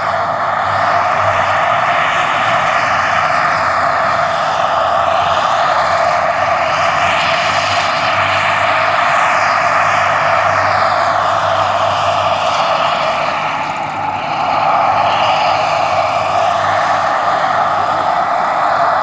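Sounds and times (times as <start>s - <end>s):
low hum: 0.0s - 19.0s
model helicopter turbine rush: 0.0s - 19.0s.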